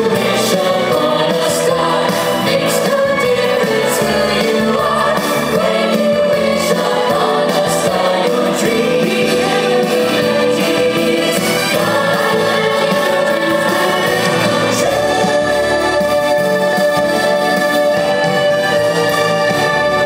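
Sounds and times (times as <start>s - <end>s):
choir singing long notes: 0.0s - 20.0s.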